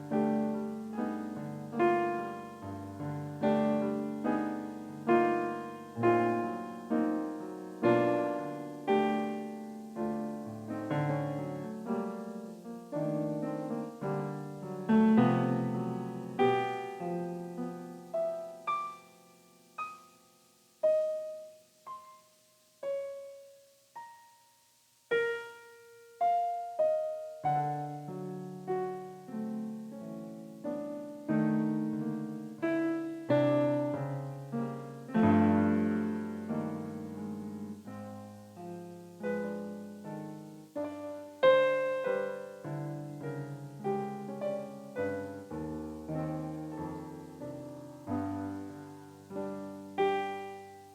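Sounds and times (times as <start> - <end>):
electronic piano chords: 0.0 - 24.4, 25.1 - 50.9.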